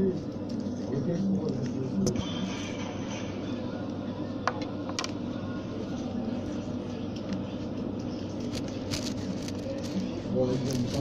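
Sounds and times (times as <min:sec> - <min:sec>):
shop interior hum: 0:00.0 - 0:11.0.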